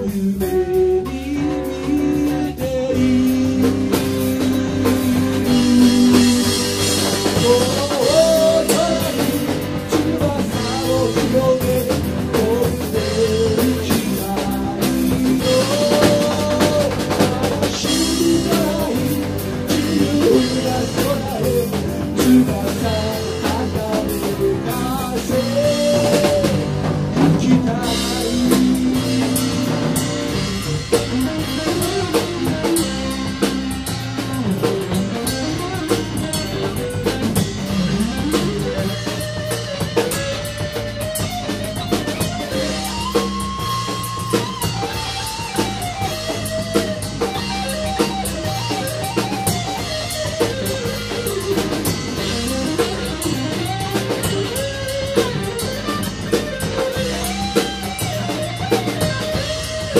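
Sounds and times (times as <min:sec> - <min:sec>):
bass: 0:00.0 - 0:59.9
drum kit beat: 0:00.0 - 0:59.9
lead guitar melody: 0:00.5 - 0:59.9.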